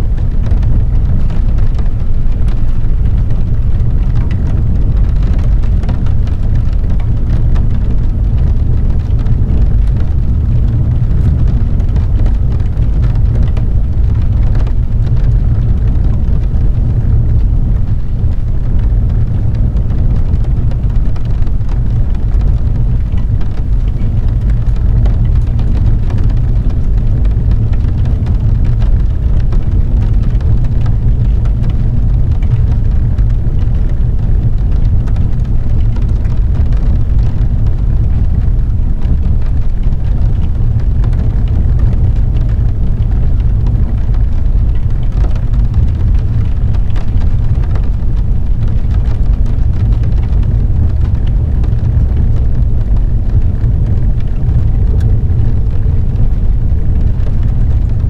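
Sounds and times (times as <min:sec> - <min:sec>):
car driving on wet road: 0:00.0 - 0:58.0
rain pattering on windshield: 0:00.0 - 0:58.0.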